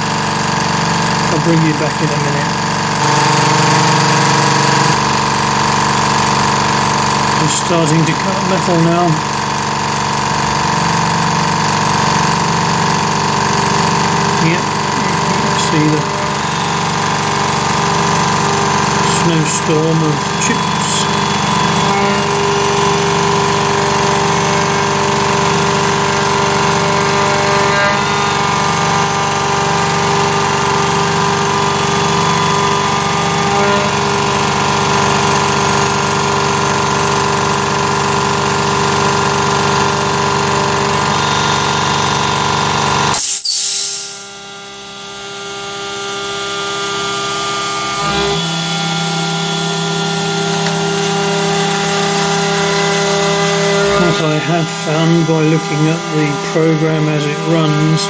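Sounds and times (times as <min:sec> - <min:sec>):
mill cutting metal whine: 0:00.0 - 0:58.0.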